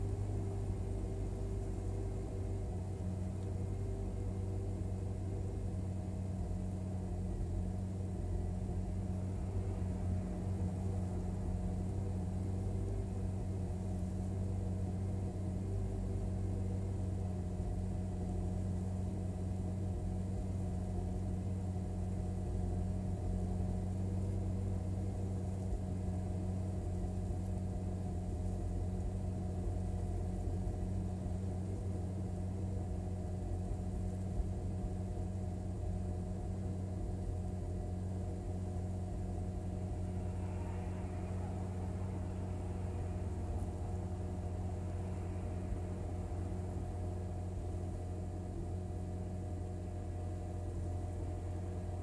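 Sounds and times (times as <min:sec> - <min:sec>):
car engine idling with misfire: 0:00.0 - 0:52.0.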